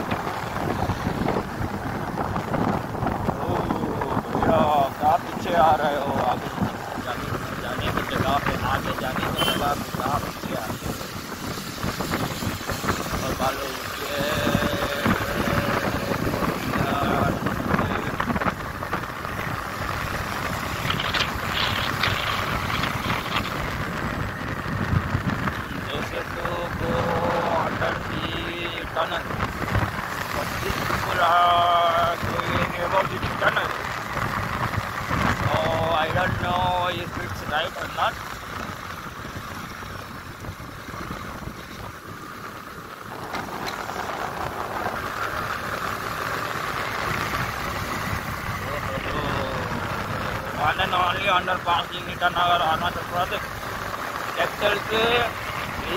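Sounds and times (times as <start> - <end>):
motorcycle running: 0.0 - 55.9
wind on microphone: 0.0 - 55.9.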